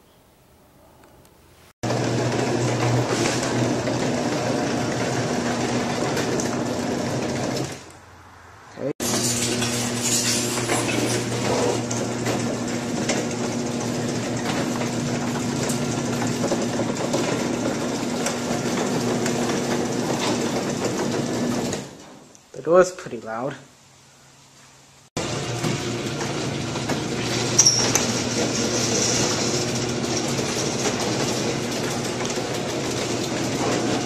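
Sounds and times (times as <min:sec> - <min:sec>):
garage door opener motor hum: 0:01.8 - 0:08.0, 0:09.0 - 0:22.3, 0:25.2 - 0:34.0.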